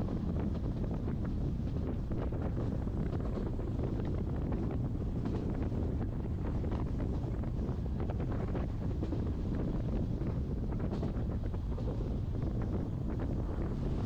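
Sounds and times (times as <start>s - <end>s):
train rumbling along track: 0.0s - 14.0s
wind buffeting microphone: 0.0s - 14.0s.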